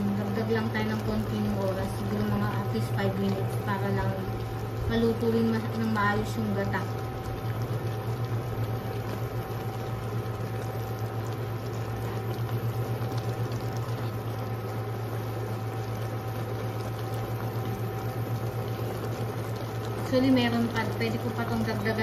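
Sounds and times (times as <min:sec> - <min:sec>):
coconut milk bubbling in a wok: 0:00.0 - 0:22.0
electric cooktop hum: 0:00.0 - 0:22.0.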